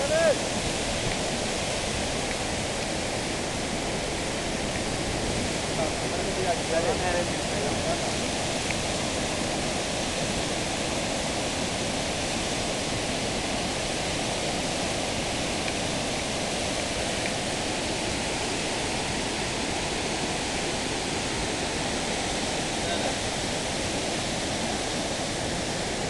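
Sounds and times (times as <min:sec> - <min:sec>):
waterfall and rapids rushing: 0:00.0 - 0:26.0.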